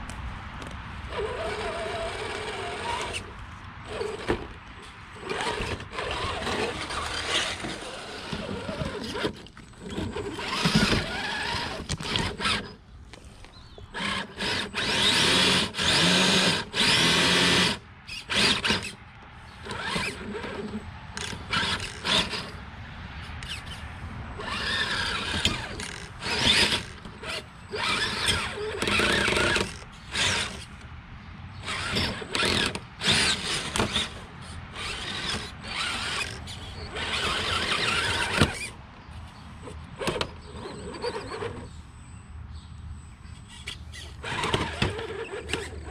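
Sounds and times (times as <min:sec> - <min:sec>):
toy car electric motor whining: 0:01.1 - 0:12.8, 0:13.4 - 0:22.6, 0:23.3 - 0:23.8, 0:24.4 - 0:30.8, 0:31.6 - 0:42.2, 0:43.3 - 0:45.9.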